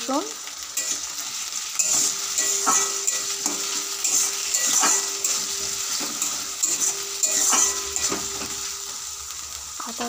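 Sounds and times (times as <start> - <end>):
food sizzling in hot oil: 0.0 - 10.0
metal spatula scraping pan: 0.8 - 8.9.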